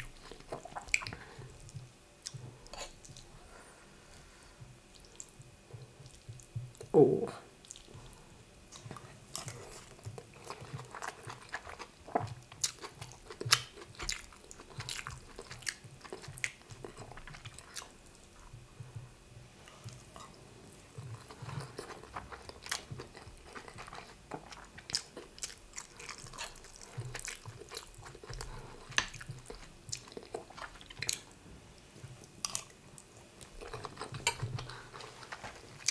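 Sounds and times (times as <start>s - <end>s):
chewing food: 0.0s - 3.4s, 4.0s - 6.9s, 7.6s - 31.4s, 32.0s - 35.9s.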